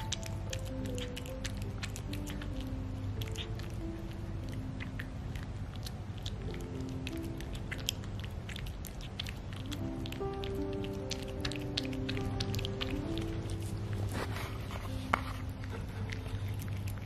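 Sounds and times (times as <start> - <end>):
background music with held notes: 0.0 - 17.0
cat chewing wet food: 0.0 - 17.0.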